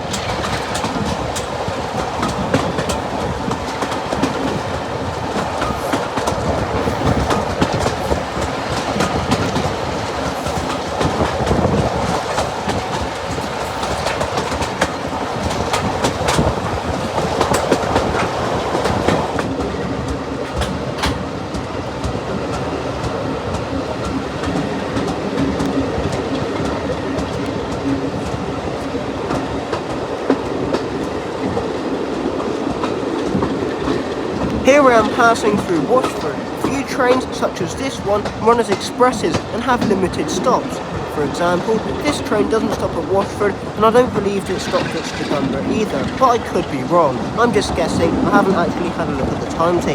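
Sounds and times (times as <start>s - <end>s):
train carriage rumble: 0.0s - 49.9s
wheels clicking over rail joints: 0.0s - 49.9s.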